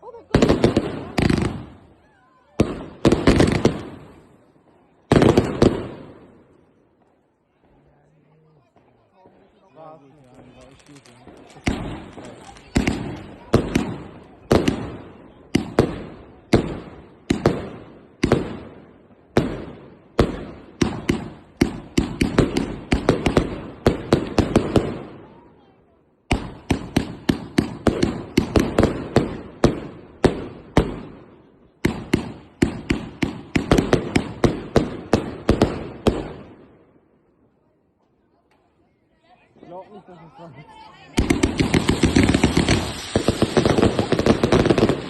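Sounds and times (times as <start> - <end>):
firework shots: 0.0 - 7.8, 10.3 - 25.6, 26.2 - 37.0, 40.7 - 45.0.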